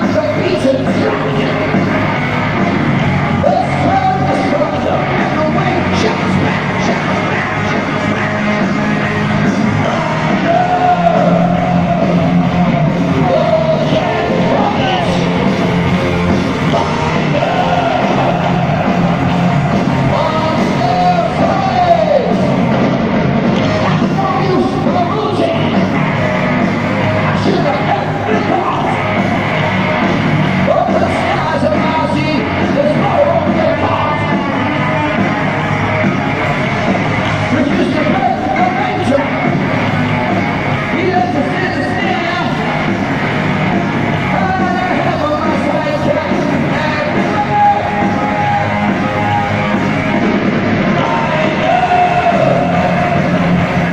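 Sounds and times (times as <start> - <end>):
male lead vocal: 0.0 - 22.6, 23.7 - 26.0, 27.1 - 29.1, 30.6 - 35.7, 37.5 - 39.6, 40.9 - 42.8, 44.3 - 49.7, 50.8 - 53.9
heavy metal band playing live: 0.0 - 53.9.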